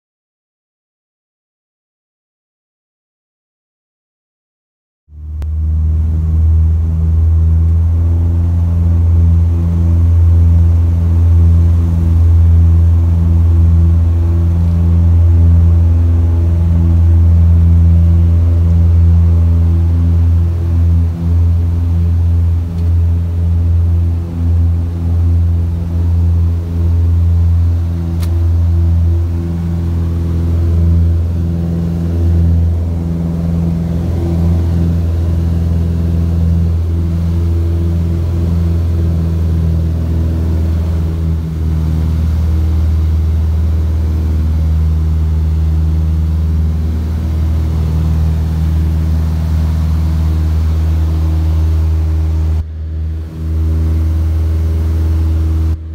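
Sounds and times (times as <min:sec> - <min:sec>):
airplane engines and propellers: 0:05.1 - 0:55.9.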